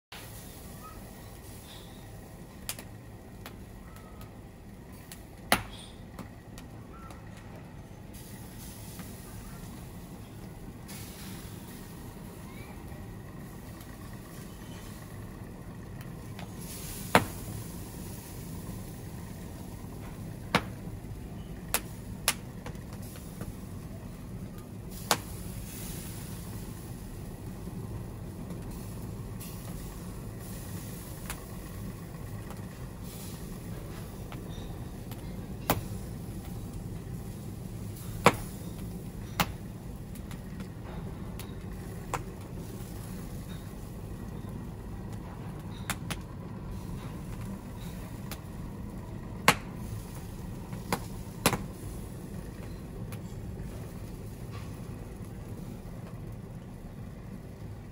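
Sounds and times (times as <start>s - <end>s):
fire crackling and popping: 0.1s - 57.9s
wood fire rumbling: 0.1s - 57.9s.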